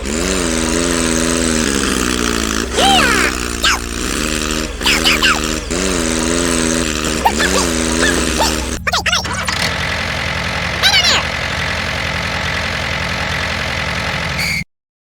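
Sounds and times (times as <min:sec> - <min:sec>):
small engine idling: 0:00.0 - 0:14.7.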